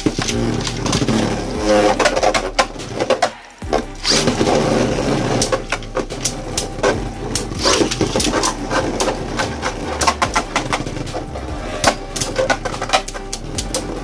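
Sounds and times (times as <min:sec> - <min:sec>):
spinning tops whirring and clattering: 0:00.0 - 0:14.0.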